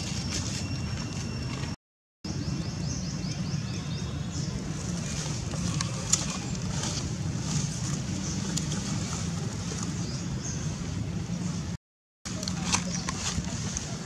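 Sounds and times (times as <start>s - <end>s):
low outdoor rumble: 0.0s - 14.0s
rustling of dry leaves: 0.0s - 14.0s.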